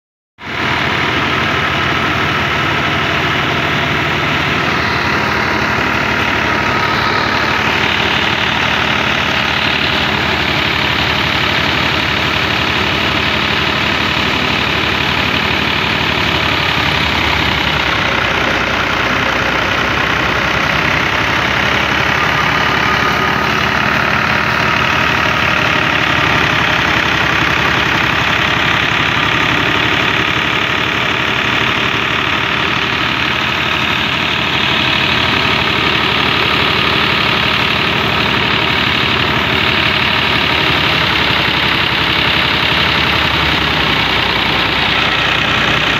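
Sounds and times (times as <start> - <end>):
thresher drum and belts running: 0.4 - 45.9
tractor diesel engine under load: 0.4 - 45.9.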